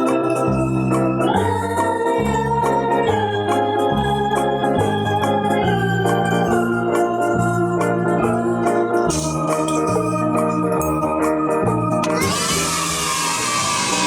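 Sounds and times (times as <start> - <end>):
bass line: 0.0 - 14.0
organ-like electronic keyboard music: 0.0 - 14.0.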